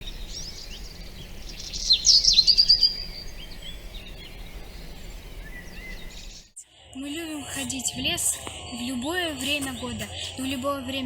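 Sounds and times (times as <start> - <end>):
songbirds singing and chirping: 0.0 - 11.0.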